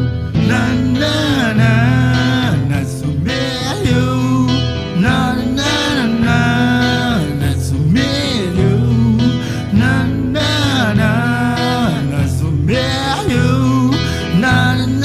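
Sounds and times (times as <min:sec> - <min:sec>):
man singing: 0:00.0 - 0:15.0
pop instrumental backing: 0:00.0 - 0:15.0.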